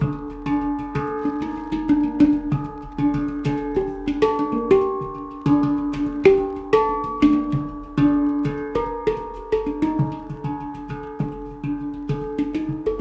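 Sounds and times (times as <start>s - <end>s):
finger taps on handpan: 0.0s - 13.0s
handpan melody: 0.0s - 13.0s.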